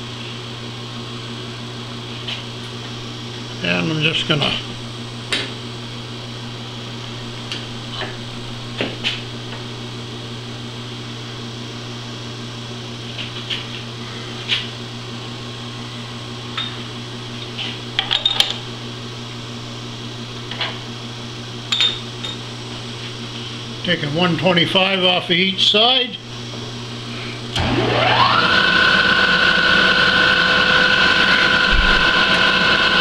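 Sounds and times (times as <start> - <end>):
milling machine humming: 0.0 - 33.0.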